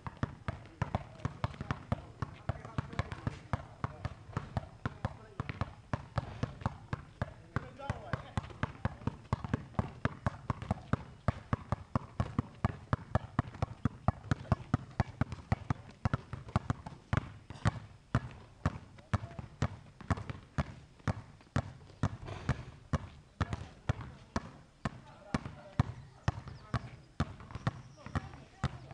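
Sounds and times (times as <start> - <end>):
basketballs bouncing on asphalt: 0.0 - 28.9.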